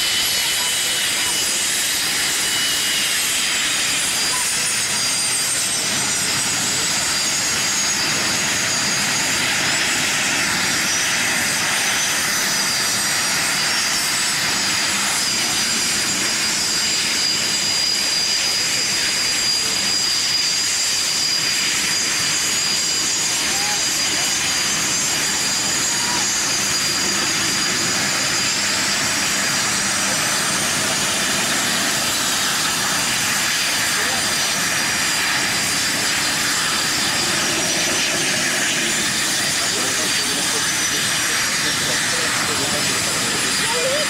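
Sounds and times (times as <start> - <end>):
jet engines high-pitched whine: 0.0 - 44.0
rush of jet noise: 0.0 - 44.0.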